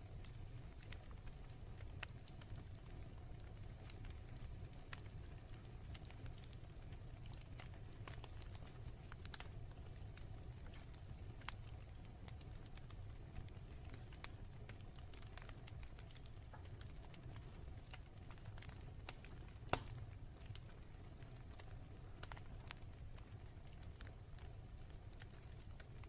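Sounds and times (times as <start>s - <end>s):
fire crackling and popping: 0.0s - 26.0s
low steady fire rumble: 0.0s - 26.0s.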